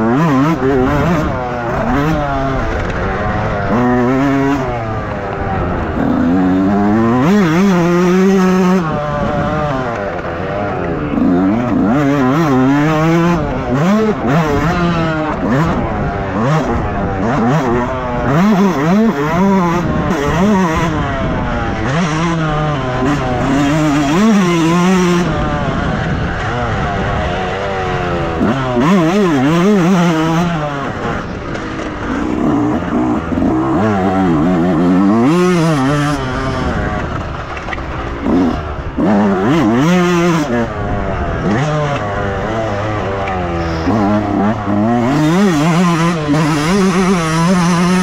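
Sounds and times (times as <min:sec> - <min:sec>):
motocross bike engine revving: 0:00.0 - 0:48.0.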